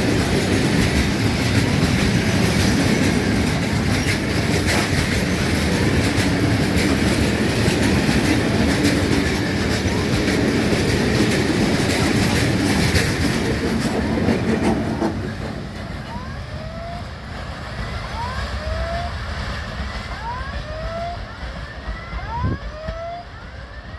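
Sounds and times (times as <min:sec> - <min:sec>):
train wagons rumbling and clattering: 0:00.0 - 0:23.9.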